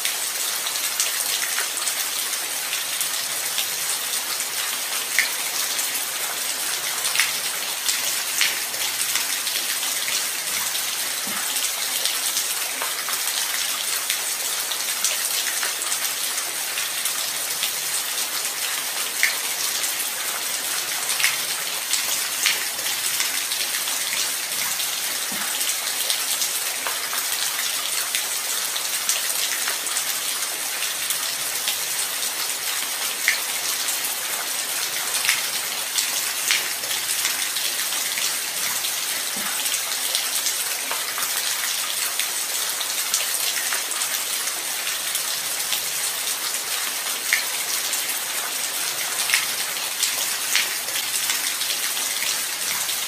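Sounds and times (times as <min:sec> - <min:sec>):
light rain falling: 0:00.0 - 0:53.0.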